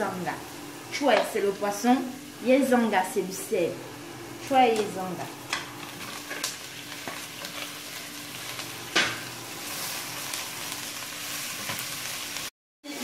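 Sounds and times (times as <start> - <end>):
fish sizzling in a pot: 0.0 - 13.0.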